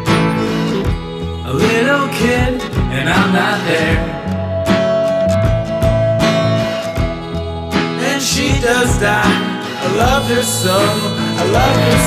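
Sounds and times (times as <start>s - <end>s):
bass notes: 0.0s - 12.0s
strummed acoustic guitar: 0.0s - 12.0s.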